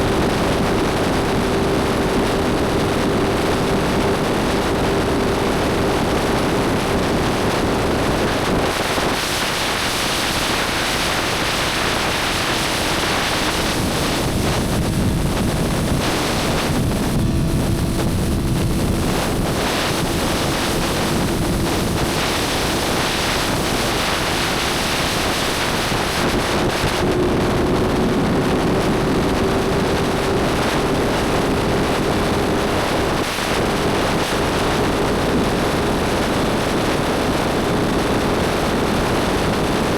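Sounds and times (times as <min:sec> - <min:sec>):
motorcycle engine hum: 0:00.0 - 0:39.4
wind rushing over microphone: 0:00.0 - 0:39.9.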